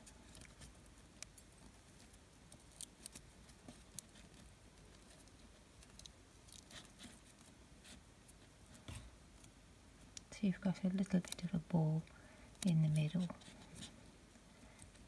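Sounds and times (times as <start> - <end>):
soft rustling of cord: 0.0 - 15.0.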